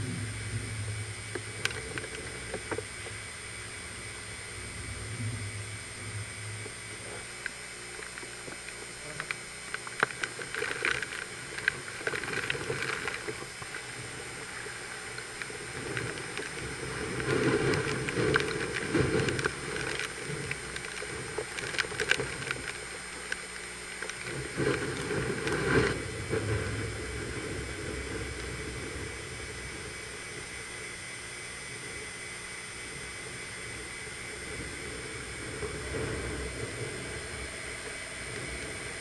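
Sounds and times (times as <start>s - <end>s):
strong wind buffeting microphone: 0.0s - 7.9s, 11.3s - 23.1s, 24.2s - 31.4s, 33.0s - 39.0s
rain: 0.0s - 39.0s.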